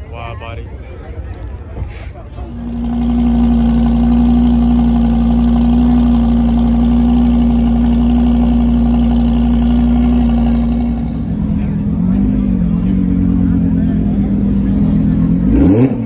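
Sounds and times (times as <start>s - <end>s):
car engine at steady revs: 2.4s - 16.0s.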